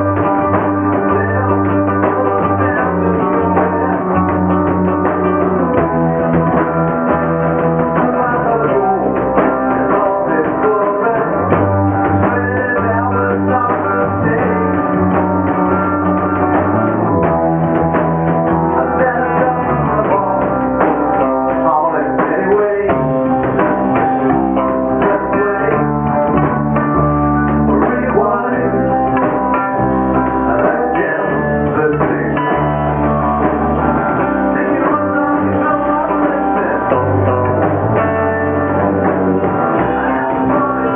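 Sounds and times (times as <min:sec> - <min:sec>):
bass guitar long low notes: 0:00.0 - 0:40.9
drum kit: 0:00.0 - 0:40.9
electric guitar: 0:00.0 - 0:40.9.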